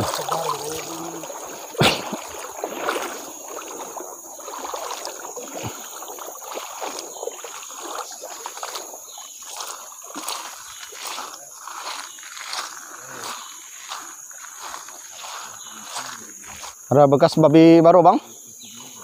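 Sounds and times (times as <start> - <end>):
river water splashing: 0.0 - 16.8.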